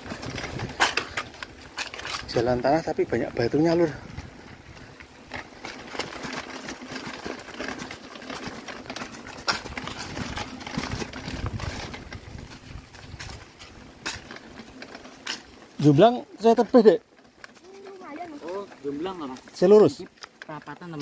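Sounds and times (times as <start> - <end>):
bike clattering over rocks: 0.0 - 21.0
bike tyres crunching over stones: 0.0 - 21.0.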